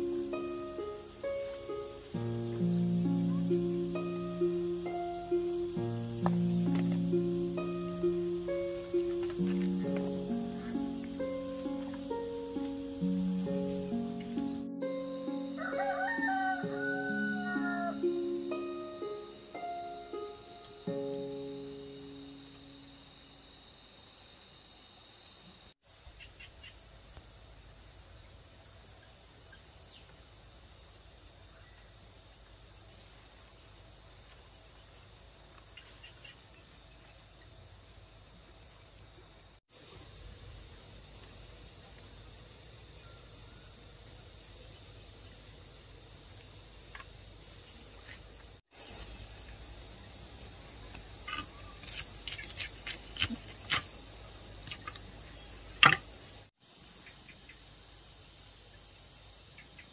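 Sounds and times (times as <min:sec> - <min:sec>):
insect chorus trilling: 0:00.0 - 0:59.9.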